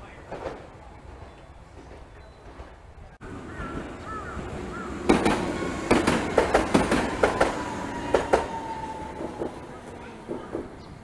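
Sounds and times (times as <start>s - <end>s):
tram wheels clacking on rail joints: 0.2s - 11.0s.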